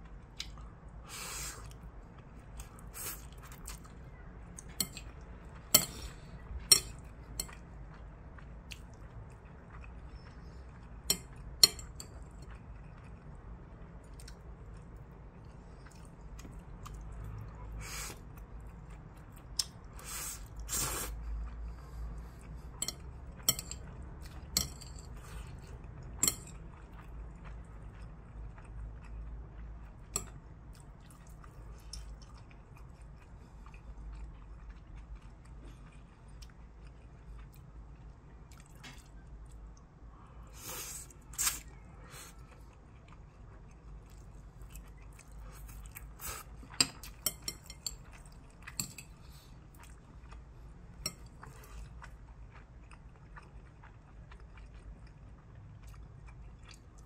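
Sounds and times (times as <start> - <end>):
person chewing noodles: 0.0 - 57.0.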